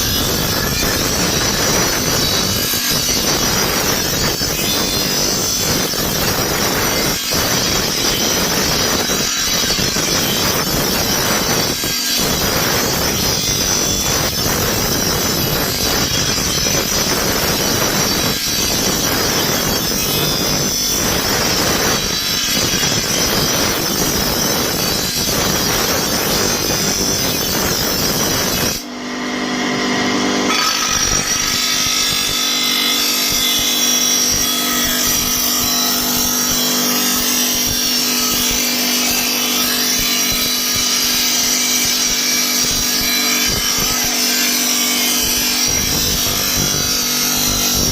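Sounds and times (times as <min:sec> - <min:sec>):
power grinder grinding steel: 0:00.0 - 0:28.9, 0:29.7 - 0:47.9
grinder motor hum: 0:00.0 - 0:47.9.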